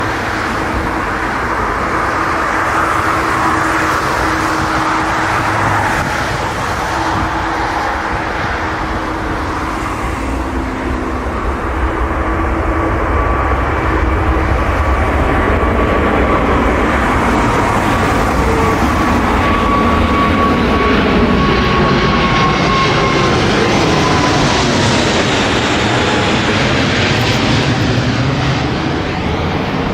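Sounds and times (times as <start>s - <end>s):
jet engines roaring with whine: 0.0s - 29.9s.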